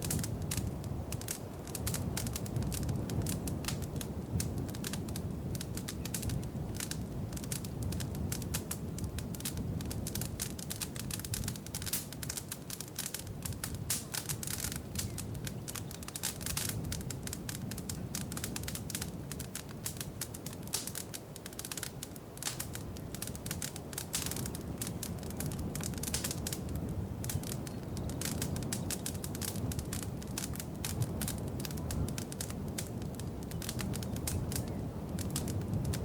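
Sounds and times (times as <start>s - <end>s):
fire pops and snaps: 0.0s - 36.0s
low rumble of flames: 0.0s - 36.0s.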